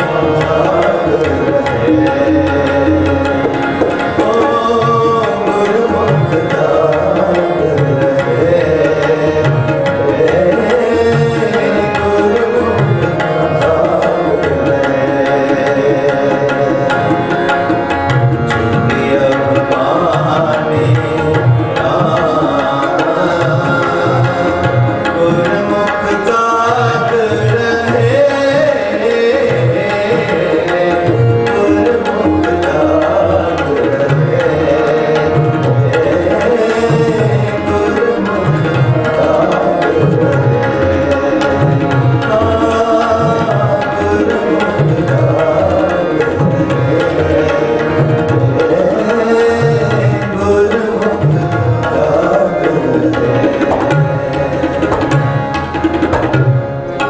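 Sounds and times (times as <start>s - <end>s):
harmoniums playing a melody: 0.0s - 57.0s
tabla drumming: 0.0s - 57.0s.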